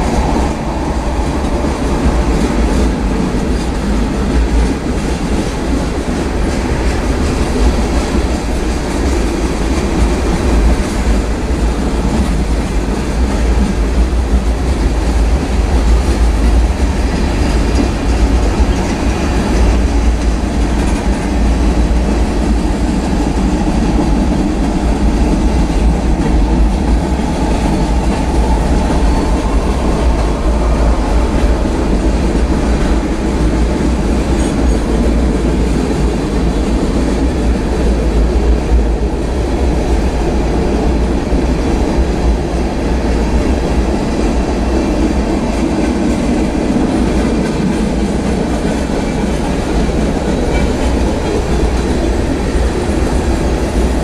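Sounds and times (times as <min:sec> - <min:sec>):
clickety-clack over rail joints: 0:00.0 - 0:54.0
freight train wheels rumbling: 0:00.0 - 0:54.0.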